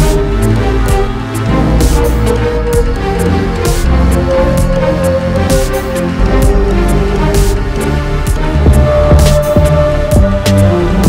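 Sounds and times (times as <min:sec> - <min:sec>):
loud music with drums: 0:00.0 - 0:11.0.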